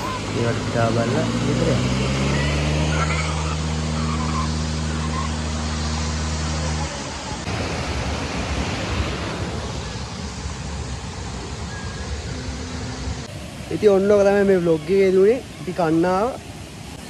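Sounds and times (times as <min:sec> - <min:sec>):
water rushing down spillway: 0:00.0 - 0:17.0.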